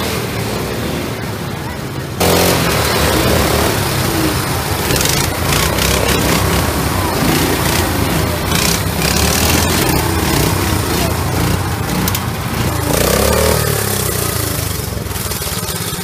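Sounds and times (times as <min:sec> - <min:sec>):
go-kart engines droning: 0:00.0 - 0:16.0.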